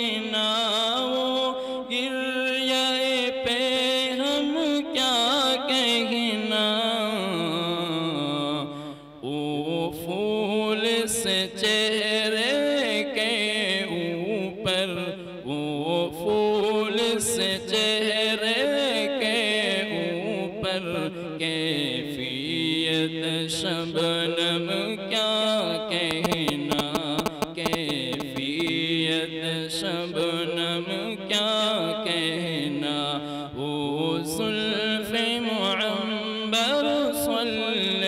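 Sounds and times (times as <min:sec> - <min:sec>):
solo voice singing: 0:00.0 - 0:38.0.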